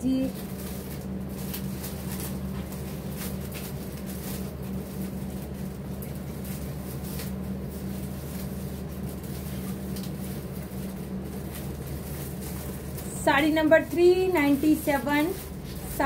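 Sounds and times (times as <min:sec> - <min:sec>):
air conditioner humming: 0:00.0 - 0:16.0
fabric rustling: 0:00.2 - 0:16.0.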